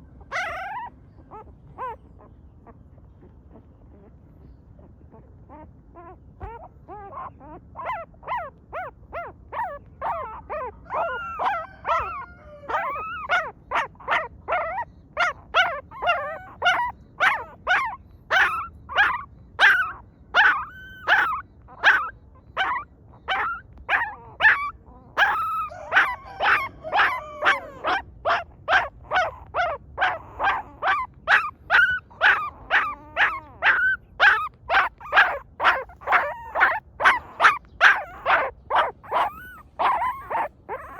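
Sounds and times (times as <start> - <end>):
dog yelping and whimpering: 0.0 - 40.9.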